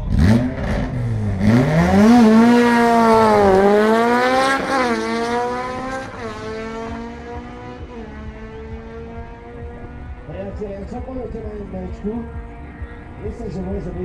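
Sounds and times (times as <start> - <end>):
cars accelerating hard: 0.0 - 14.0.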